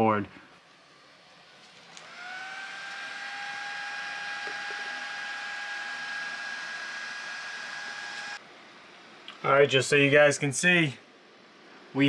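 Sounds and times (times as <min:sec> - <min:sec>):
power supply fan whine: 0:00.0 - 0:12.0.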